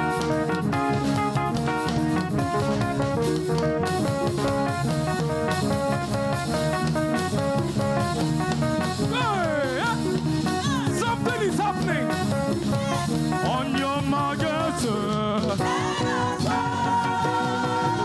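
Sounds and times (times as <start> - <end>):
drum kit: 0.0 - 18.0.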